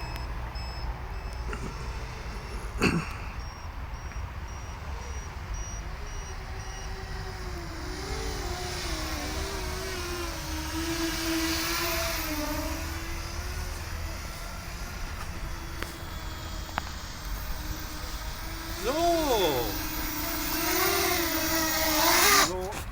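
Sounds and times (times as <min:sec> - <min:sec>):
quadcopter motors whining: 0:00.0 - 0:22.9.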